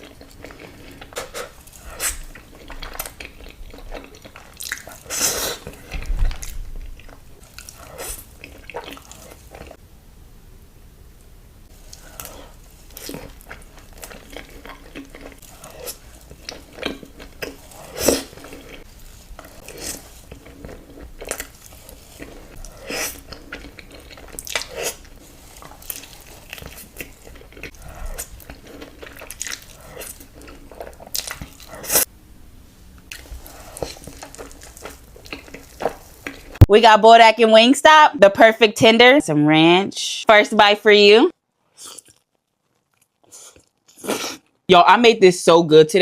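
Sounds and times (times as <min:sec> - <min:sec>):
crunchy chewing: 0:00.0 - 0:09.8, 0:11.7 - 0:32.1, 0:33.0 - 0:36.6, 0:41.6 - 0:44.6.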